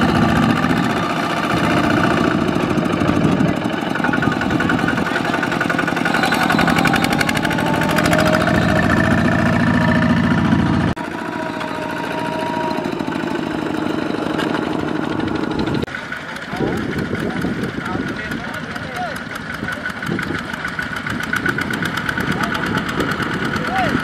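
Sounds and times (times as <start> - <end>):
diesel tractor engine pulsing: 0.0 - 24.0.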